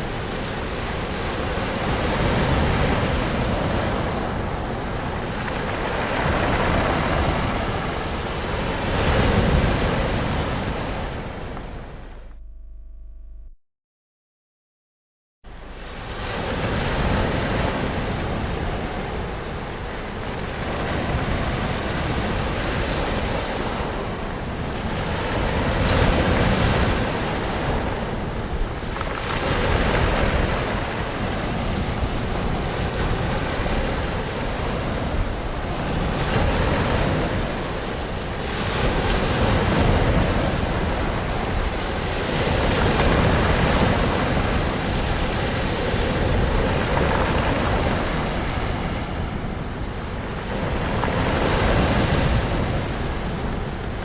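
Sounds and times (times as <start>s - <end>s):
ocean waves breaking: 0.0s - 12.2s, 15.5s - 54.0s.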